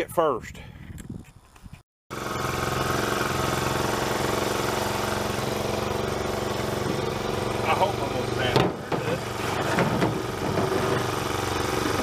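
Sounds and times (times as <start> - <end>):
small gas engine running: 2.1 - 12.0.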